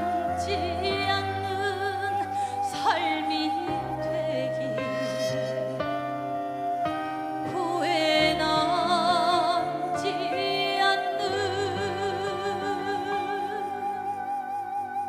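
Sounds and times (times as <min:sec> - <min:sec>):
woman singing ballad high notes: 0:00.0 - 0:14.8.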